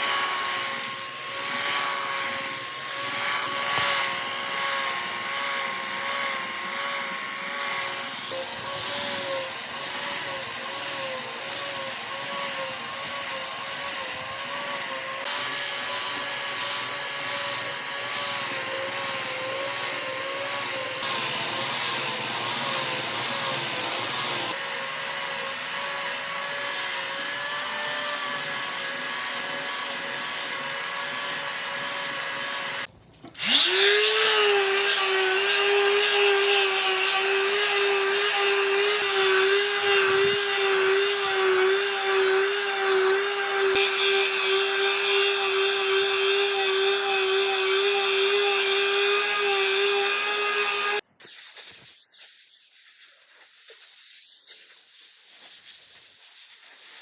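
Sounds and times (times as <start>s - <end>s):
power tool motor cutting wood: 0.0s - 51.0s.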